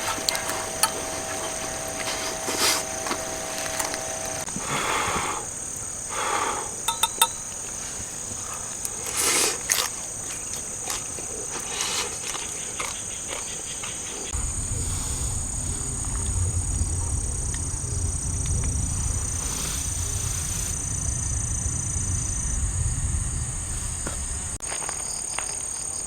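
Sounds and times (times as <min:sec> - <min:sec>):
grass insects chirring: 0:00.0 - 0:26.0.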